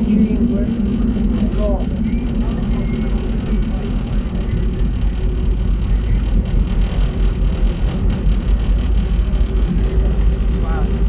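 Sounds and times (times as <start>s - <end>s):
metro train wheels rumbling on rail: 0.0s - 11.0s.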